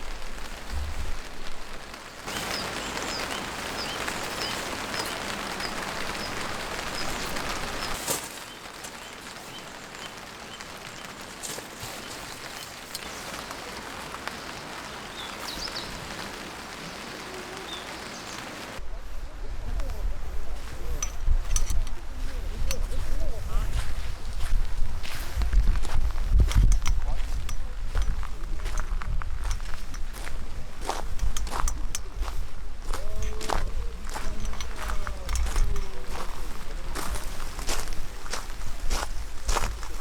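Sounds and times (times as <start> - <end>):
steady rain falling: 0.0 - 18.8, 20.2 - 40.0.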